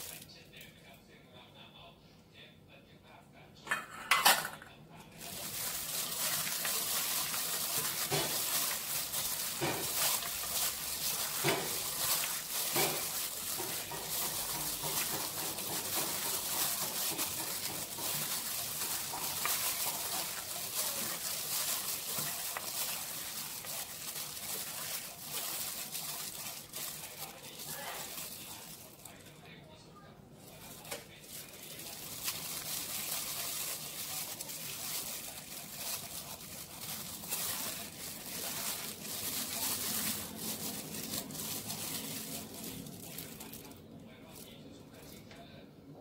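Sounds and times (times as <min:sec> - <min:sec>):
wet rustling and crinkling: 0:00.0 - 0:00.3, 0:05.1 - 0:29.6, 0:30.4 - 0:45.4.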